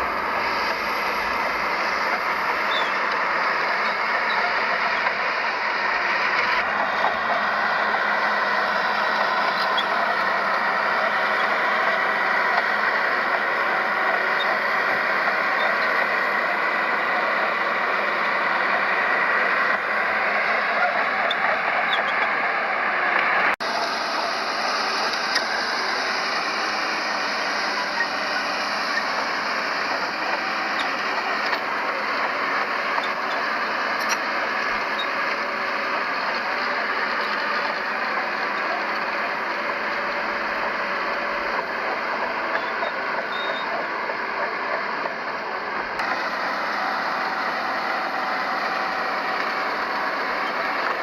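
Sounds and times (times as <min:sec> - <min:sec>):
bulldozer diesel engine: 0:00.0 - 0:51.0
dump truck diesel engines: 0:00.0 - 0:51.0.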